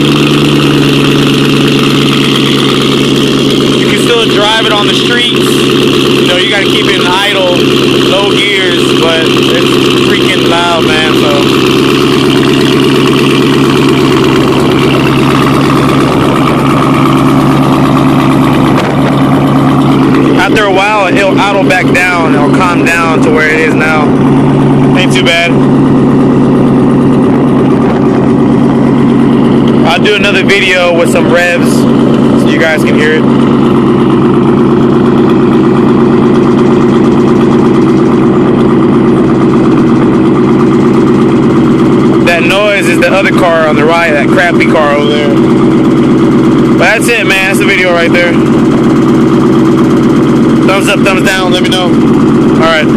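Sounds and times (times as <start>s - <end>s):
loud car engine idling: 0.0s - 52.9s.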